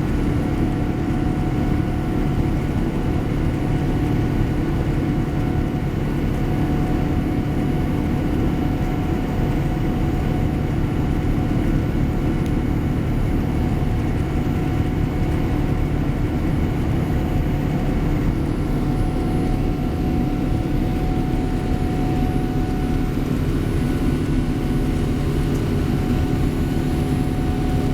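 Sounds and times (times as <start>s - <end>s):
aircraft cabin rumble: 0.0s - 27.9s.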